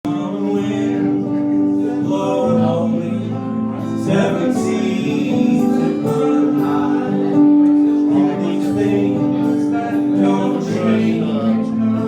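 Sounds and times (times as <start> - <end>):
held melody line: 0.0 - 12.0
strummed acoustic guitar: 0.0 - 12.0.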